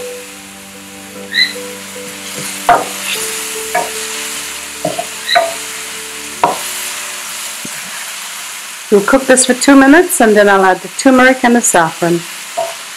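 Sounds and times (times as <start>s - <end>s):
vegetables sizzling in oil: 0.0s - 12.9s.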